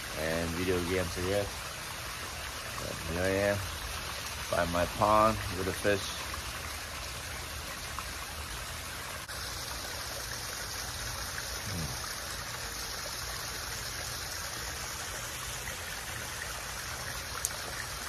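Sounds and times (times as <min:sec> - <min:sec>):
waterfall water running: 0:00.0 - 0:18.0.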